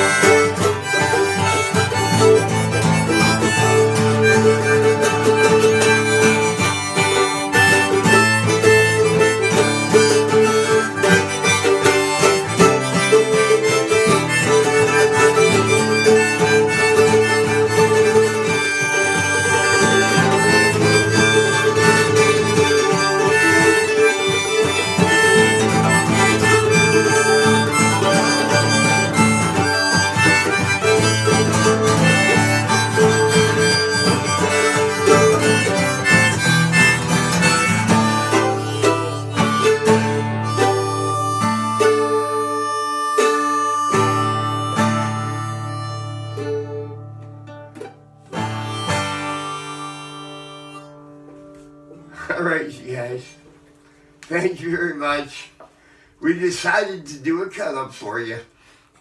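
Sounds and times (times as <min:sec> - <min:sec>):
strummed acoustic guitar: 0:00.0 - 0:55.9
harmonica melody: 0:00.0 - 0:58.8.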